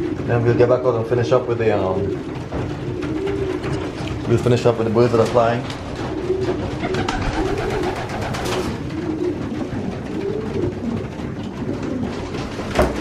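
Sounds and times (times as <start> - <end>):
pigeons cooing: 0.0 - 13.0
sharp clicks and knocks: 2.2 - 13.0.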